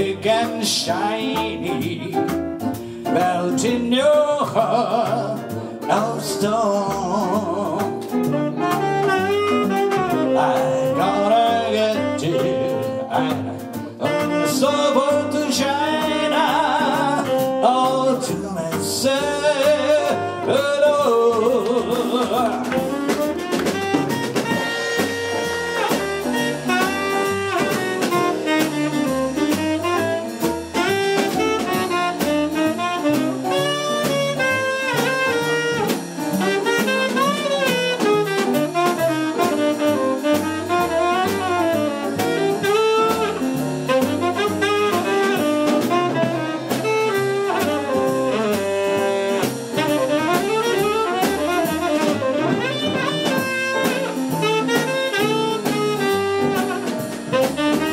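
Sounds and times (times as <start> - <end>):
big band rhythm section: 0.0 - 57.9
drum kit: 0.0 - 57.9
tenor saxophone solo: 6.8 - 57.9.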